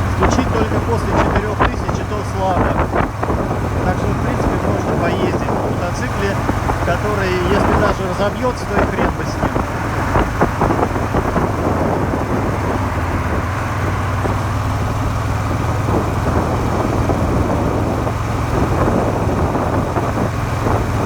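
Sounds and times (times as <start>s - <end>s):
motorcycle engine humming: 0.0s - 21.0s
wind on microphone: 0.0s - 21.0s.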